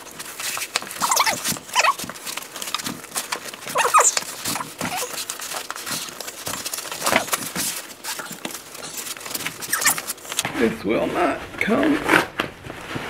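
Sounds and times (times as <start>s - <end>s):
foam packing squeaks: 0.0s - 11.4s
cardboard and foam rustling: 0.0s - 13.0s.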